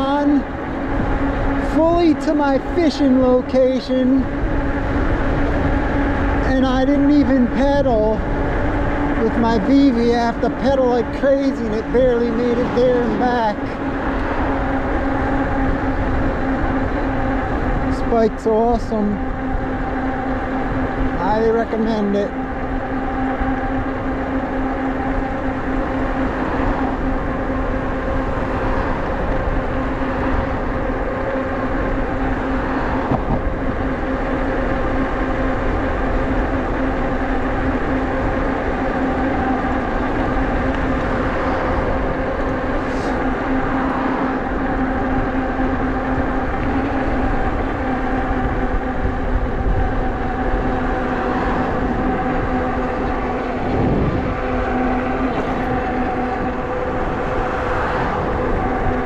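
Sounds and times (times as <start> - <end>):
electric bike motor and tyres humming: 0.0 - 59.0
wind rumble on microphone: 0.0 - 59.0.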